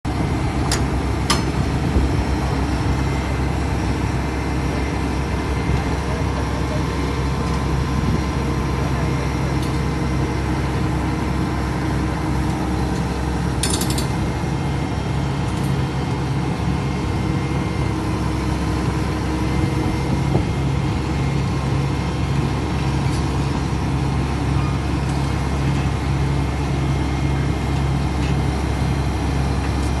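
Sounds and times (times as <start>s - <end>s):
excavator diesel engine droning: 0.1s - 30.0s.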